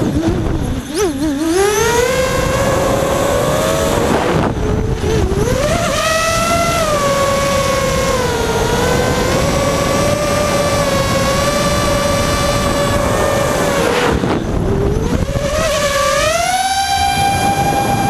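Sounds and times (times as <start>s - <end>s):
drone motors whining: 0.0s - 18.0s
wind noise on microphone: 0.0s - 18.0s.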